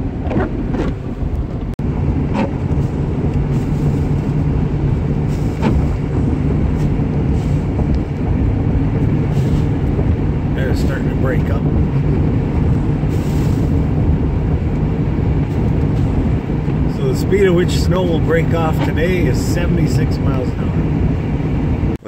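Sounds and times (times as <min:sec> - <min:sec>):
road and engine noise in truck cab: 0:00.0 - 0:22.0.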